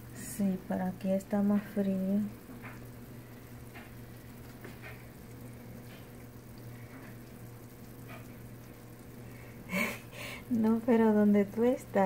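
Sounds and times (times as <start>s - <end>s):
meat sizzling faintly: 0.0s - 12.0s
steady low hum: 0.0s - 12.0s.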